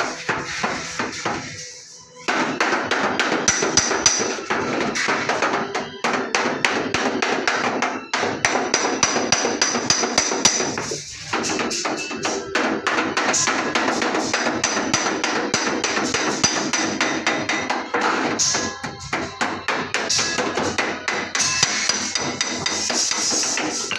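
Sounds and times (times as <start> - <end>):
hammering on sheet metal: 0.0 - 23.9.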